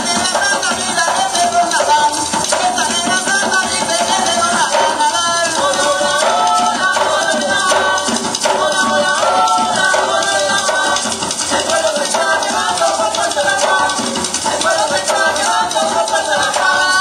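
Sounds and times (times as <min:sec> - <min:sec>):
barrel drums playing: 0:00.0 - 0:17.0
person singing: 0:00.0 - 0:17.0.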